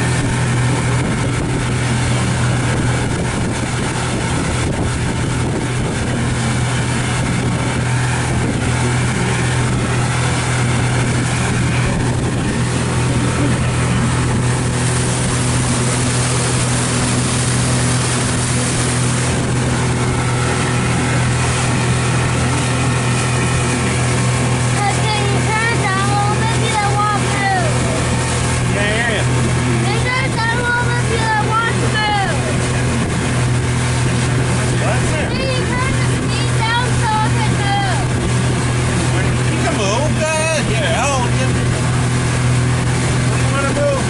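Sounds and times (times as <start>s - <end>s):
boat motor droning: 0.0s - 44.0s
rush of wind and water: 0.0s - 44.0s.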